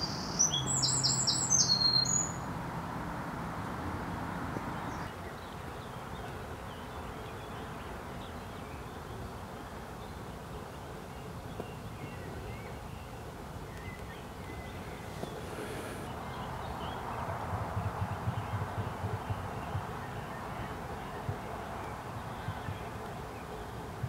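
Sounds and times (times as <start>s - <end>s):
distant bird chirps: 0.0s - 2.6s, 4.2s - 24.0s.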